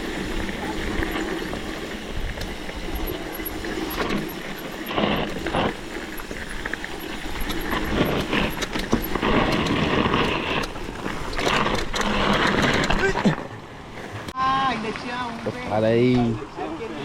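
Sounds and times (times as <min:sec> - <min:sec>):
mini motorcycle engines: 0:00.0 - 0:13.6.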